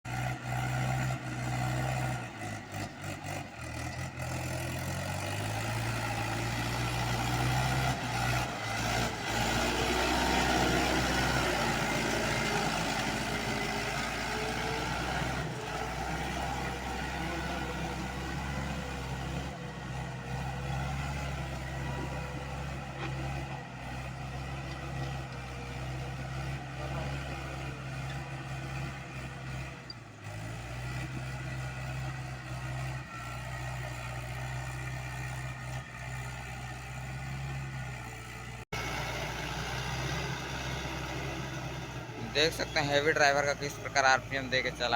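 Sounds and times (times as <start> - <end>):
tractor diesel engine revving: 0.1 - 44.9.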